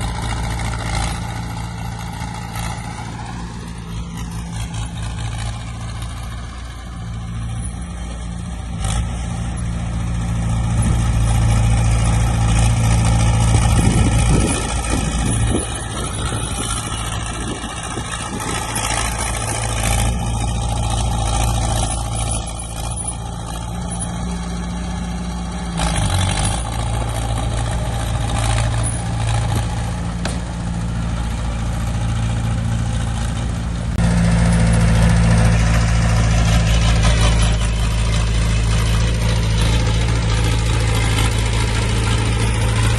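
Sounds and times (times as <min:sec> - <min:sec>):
heavy machinery diesel engines: 0:00.0 - 0:42.9.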